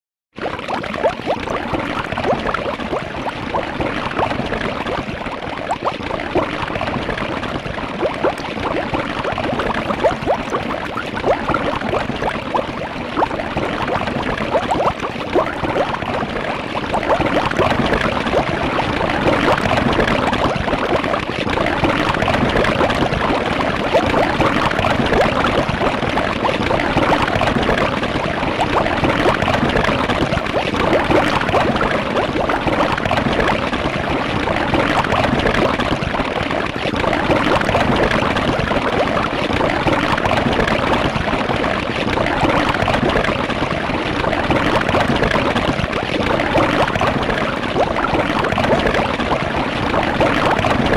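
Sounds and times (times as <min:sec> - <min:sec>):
cartoon wet bubbling gurgle: 0:00.4 - 0:50.9.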